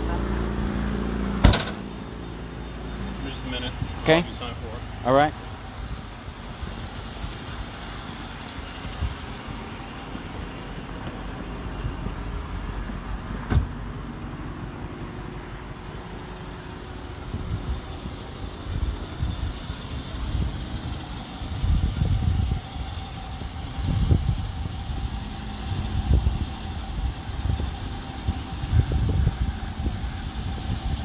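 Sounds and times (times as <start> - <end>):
engine running low rumble: 0.0 - 31.0.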